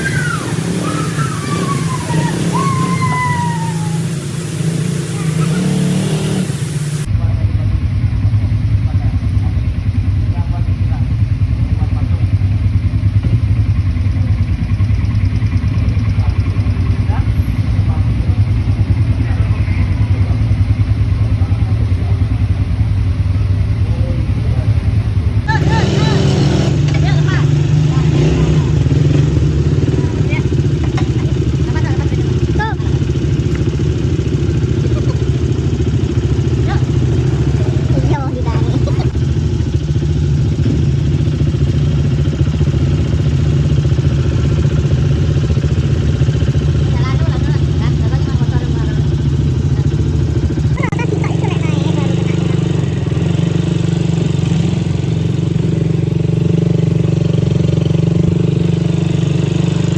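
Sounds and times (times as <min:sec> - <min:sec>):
quad bike engine rumbling: 0:00.0 - 0:59.9.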